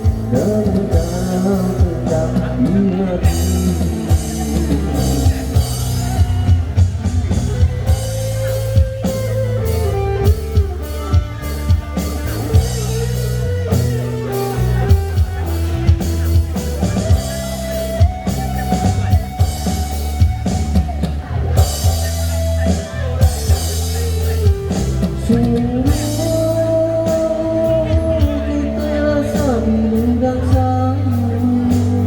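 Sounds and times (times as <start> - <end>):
bass guitar: 0.0 - 32.0
drum kit: 0.0 - 32.0
gliding lead guitar melody: 0.0 - 32.0.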